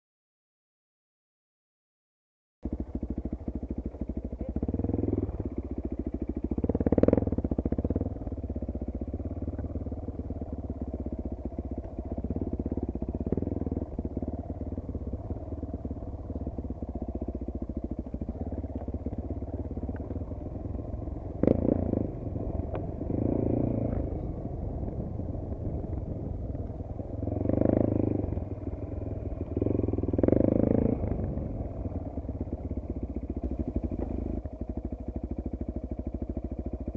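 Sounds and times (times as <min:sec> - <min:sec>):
motorcycle engine idling: 0:02.6 - 0:36.9
motorcycle throttle blips: 0:02.6 - 0:36.9.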